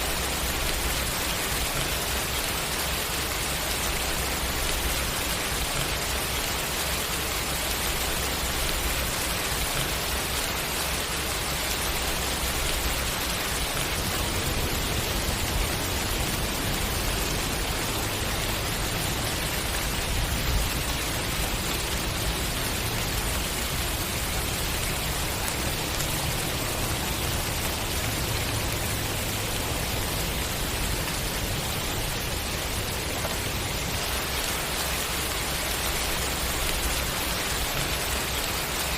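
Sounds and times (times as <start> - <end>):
dense rain falling: 0.0 - 38.9.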